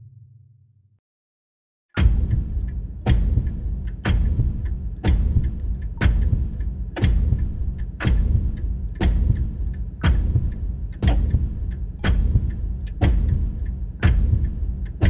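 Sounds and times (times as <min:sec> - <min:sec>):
slow heartbeat: 0:02.0 - 0:15.0.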